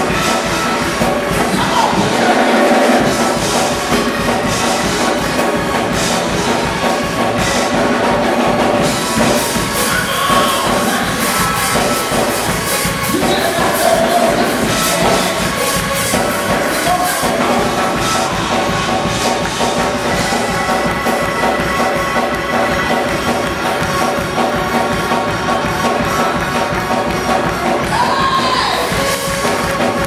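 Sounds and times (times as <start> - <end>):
gospel music with percussive beat: 0.0 - 30.0
people clapping: 0.0 - 30.0.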